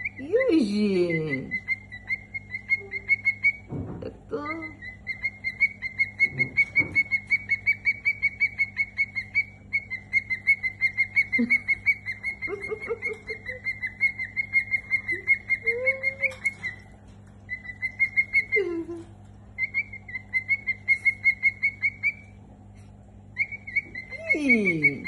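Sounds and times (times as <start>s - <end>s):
cockatiel high peeps: 0.0s - 3.7s, 4.4s - 22.4s, 23.4s - 25.0s.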